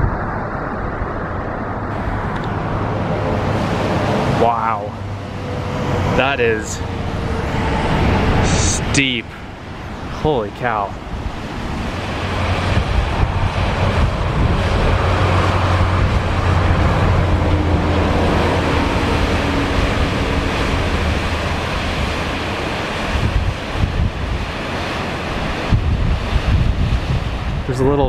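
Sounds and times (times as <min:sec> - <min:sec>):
low rumble of traffic: 0:00.0 - 0:28.0
wind buffeting microphone: 0:00.0 - 0:28.0
waterfall rushing into pool: 0:00.1 - 0:28.0.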